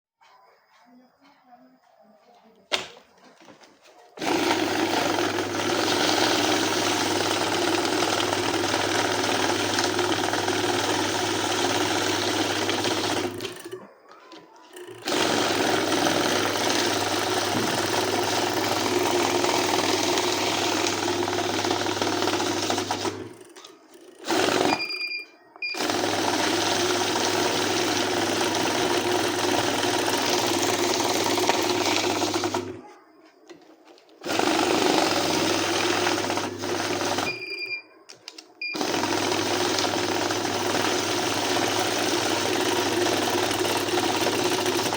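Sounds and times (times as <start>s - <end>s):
banknote counting machine whirring: 4.2s - 13.8s, 14.7s - 32.8s, 34.2s - 37.8s, 38.6s - 44.9s.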